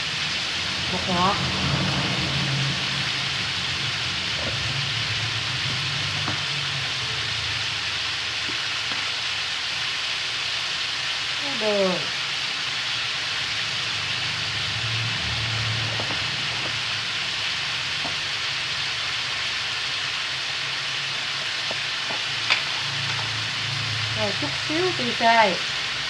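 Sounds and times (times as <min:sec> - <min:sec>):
meat sizzling in hot oil: 0:00.0 - 0:26.0.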